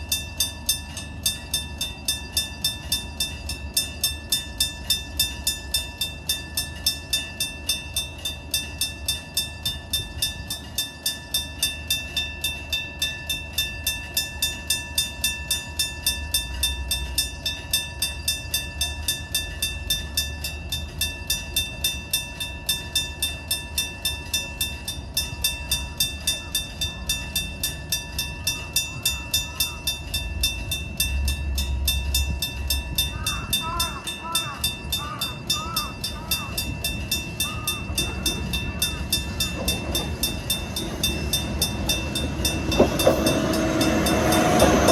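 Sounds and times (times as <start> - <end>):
railroad crossing bell ringing: 0.0 - 44.9
train rumble: 0.0 - 44.9.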